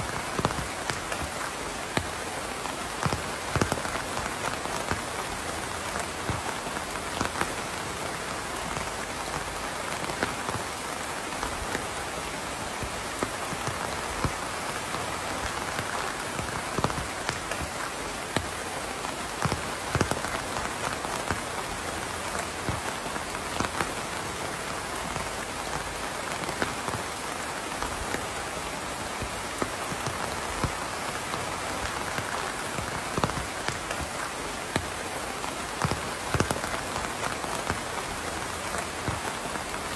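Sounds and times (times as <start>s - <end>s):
raindrops hitting close by: 0.0s - 39.9s
steady rain hissing: 0.0s - 39.9s.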